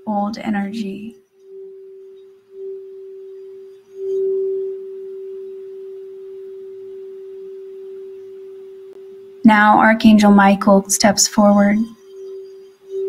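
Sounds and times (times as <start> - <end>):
singing bowl ringing: 0.0 - 9.8, 11.8 - 13.0.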